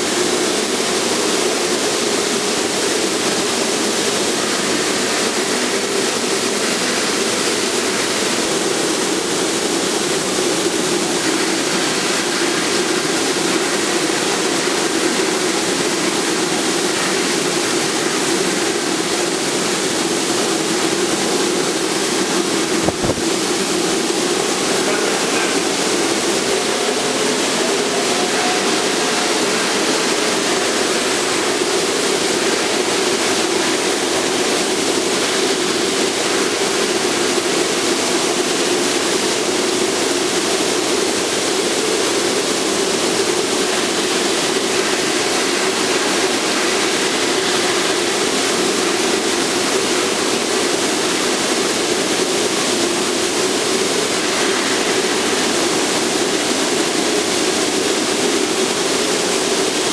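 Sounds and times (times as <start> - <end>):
machinery hum: 0.1 - 49.4.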